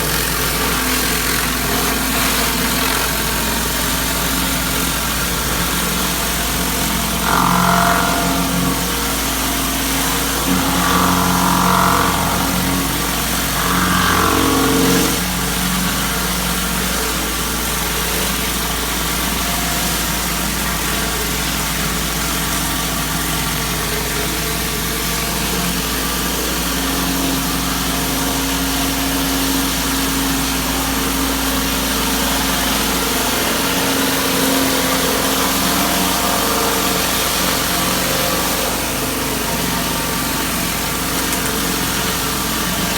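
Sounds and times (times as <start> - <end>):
pressure washer engine droning: 0.0 - 42.9.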